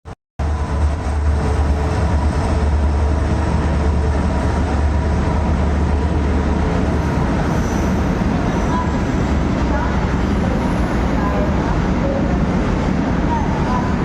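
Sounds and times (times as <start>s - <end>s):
goods train rumbling: 0.4s - 14.0s.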